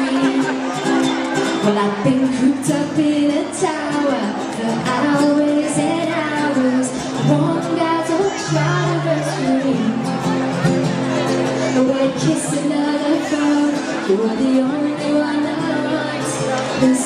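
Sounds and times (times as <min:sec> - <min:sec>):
musical accompaniment: 0:00.0 - 0:17.0
person singing live pop song: 0:00.0 - 0:17.0.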